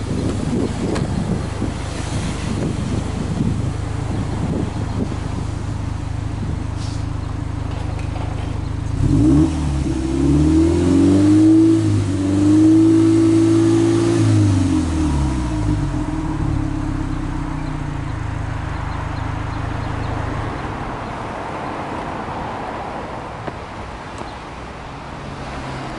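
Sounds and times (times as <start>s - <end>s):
car engine idling and revving: 0.0s - 25.9s.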